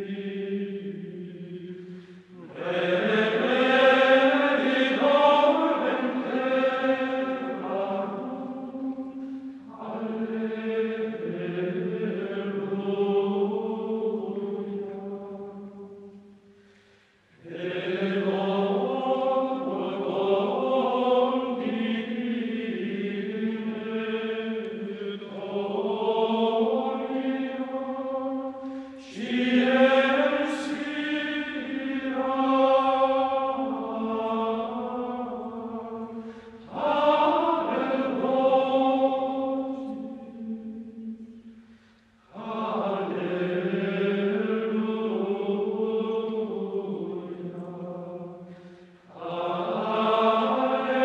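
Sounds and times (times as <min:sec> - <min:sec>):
choir chanting: 0:00.0 - 0:16.4, 0:17.4 - 0:41.6, 0:42.2 - 0:51.0.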